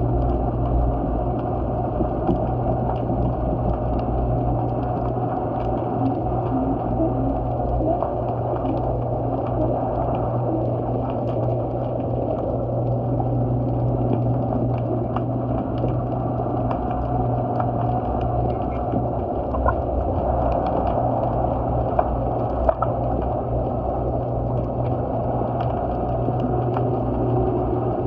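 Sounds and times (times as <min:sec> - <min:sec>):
low drone: 0:00.0 - 0:28.0.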